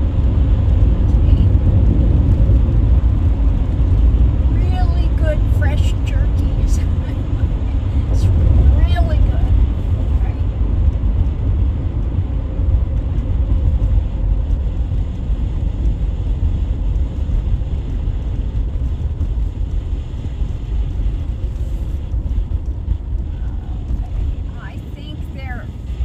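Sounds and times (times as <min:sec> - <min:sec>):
car cabin engine and tyre rumble: 0:00.0 - 0:26.0.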